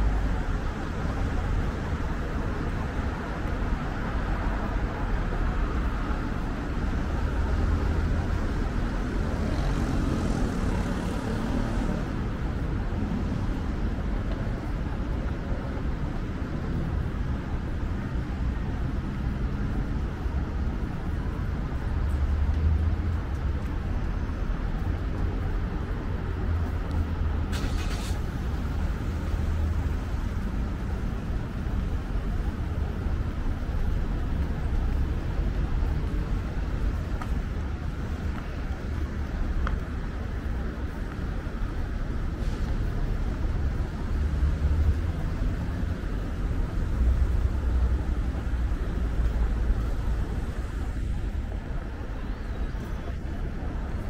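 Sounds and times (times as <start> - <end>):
passing cars rumbling: 0.0 - 54.0.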